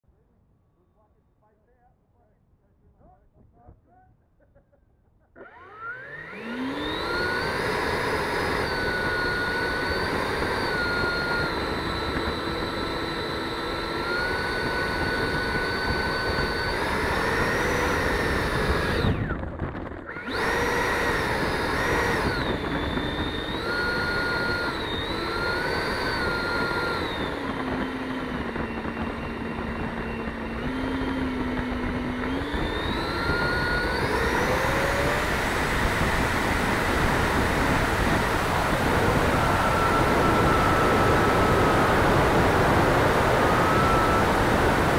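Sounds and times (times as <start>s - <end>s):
electric ducted fan whining: 5.3s - 44.9s.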